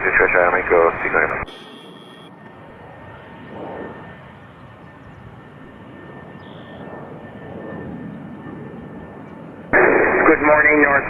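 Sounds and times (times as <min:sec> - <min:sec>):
jet airliner engine rush: 0:00.0 - 0:11.0.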